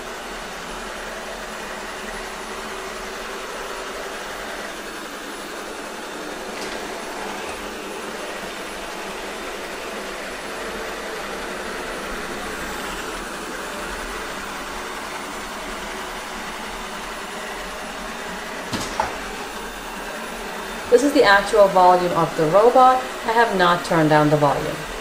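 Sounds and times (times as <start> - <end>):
robot vacuum humming: 0.0 - 25.0.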